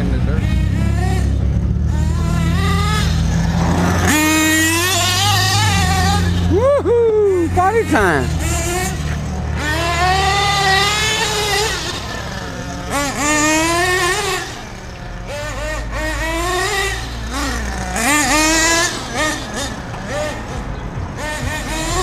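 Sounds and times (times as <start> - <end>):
radio-control car engine revving: 0.0 - 6.6, 7.3 - 22.0.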